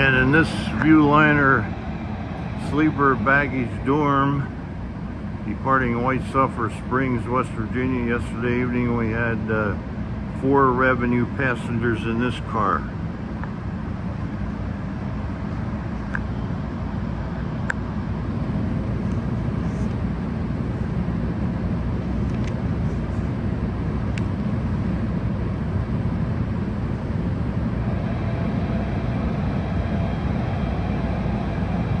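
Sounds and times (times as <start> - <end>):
train idling rumble: 0.0 - 32.0.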